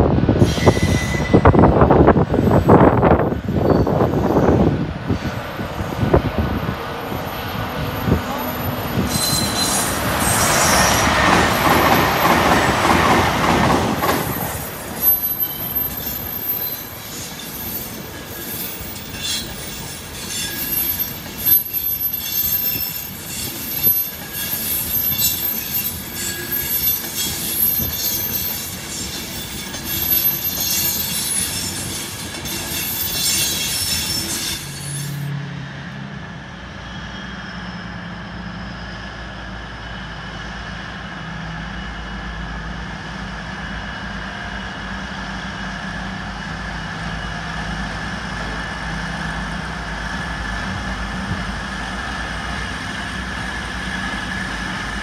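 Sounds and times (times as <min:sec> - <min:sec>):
train wheels clattering and squealing: 0:00.4 - 0:35.4, 0:36.7 - 0:55.0.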